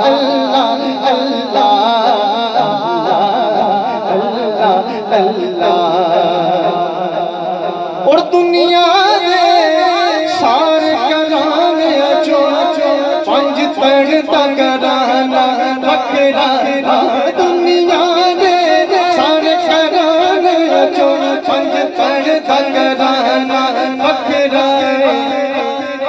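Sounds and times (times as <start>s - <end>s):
man singing melismatic line: 0.0s - 6.7s, 8.1s - 26.0s.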